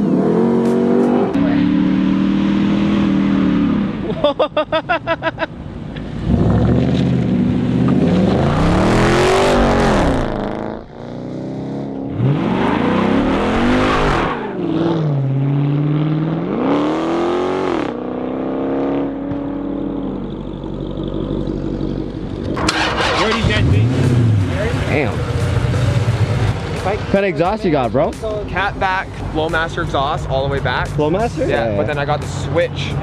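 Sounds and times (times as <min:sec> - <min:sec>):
car engine revving: 0:00.0 - 0:04.2, 0:05.9 - 0:33.0.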